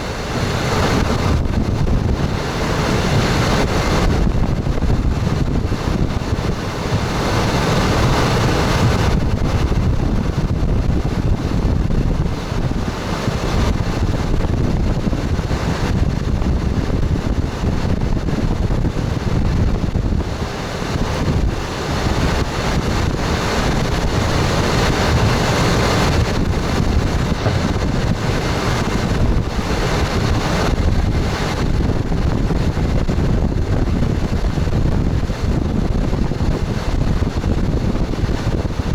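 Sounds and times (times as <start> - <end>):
train wheels on rails rumbling: 0.0 - 38.9.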